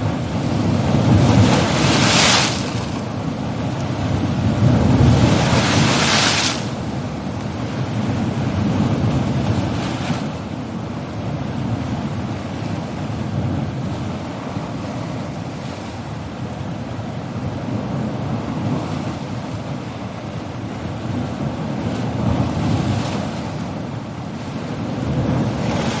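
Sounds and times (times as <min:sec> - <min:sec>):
sea waves breaking: 0:00.0 - 0:26.0.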